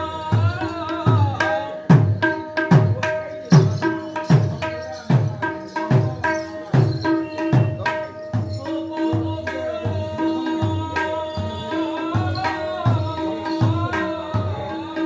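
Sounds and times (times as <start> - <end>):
treble drum strokes ringing: 0.2 - 15.0.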